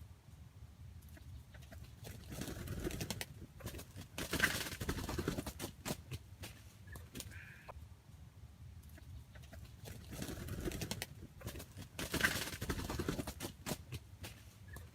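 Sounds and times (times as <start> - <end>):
fowl scuffle: 1.1 - 7.7, 9.0 - 14.9.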